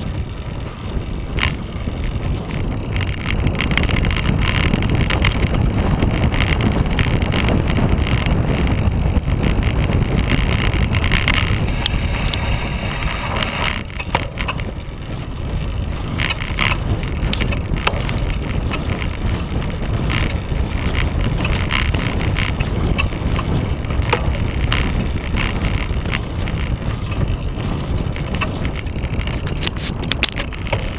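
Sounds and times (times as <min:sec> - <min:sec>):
bike clicks and rattles: 0:00.0 - 0:30.9
tyre rolling over snow: 0:00.0 - 0:30.9
wind buffeting microphone: 0:00.0 - 0:30.9.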